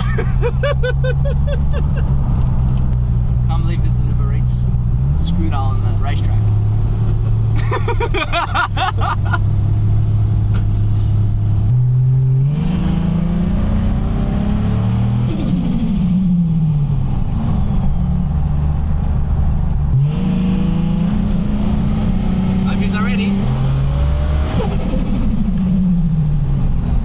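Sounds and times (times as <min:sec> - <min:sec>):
car engine revving: 0:00.0 - 0:26.8.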